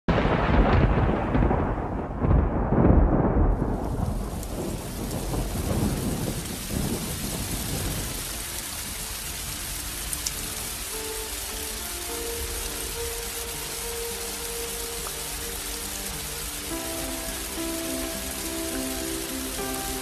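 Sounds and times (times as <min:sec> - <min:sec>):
heavy rain on roofs and water: 0:00.1 - 0:20.0
thunder rumbling: 0:00.1 - 0:20.0.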